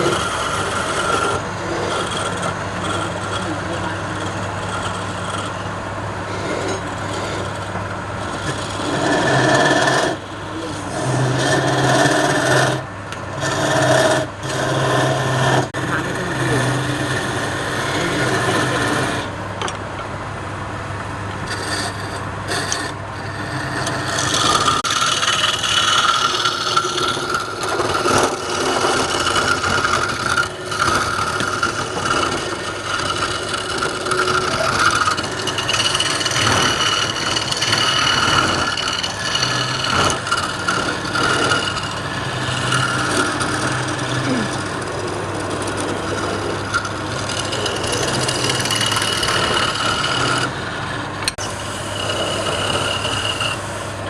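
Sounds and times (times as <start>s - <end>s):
tool scraping spinning wood: 0.0s - 19.8s, 20.7s - 54.0s
lathe motor hum: 0.0s - 54.0s.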